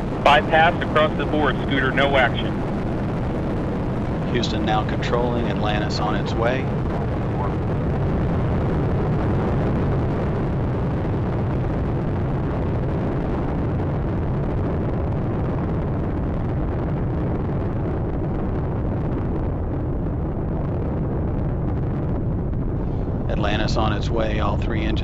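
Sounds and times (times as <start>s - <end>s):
rocket engines deep rumble: 0.0s - 25.0s.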